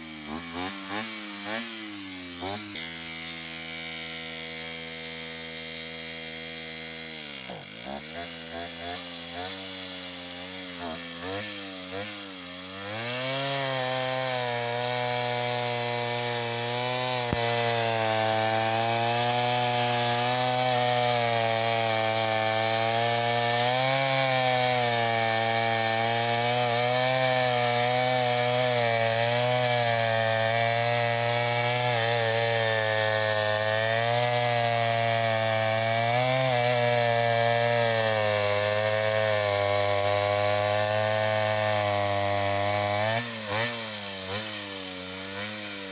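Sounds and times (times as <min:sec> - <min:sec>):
chainsaw cutting through wood: 0:00.0 - 0:45.9.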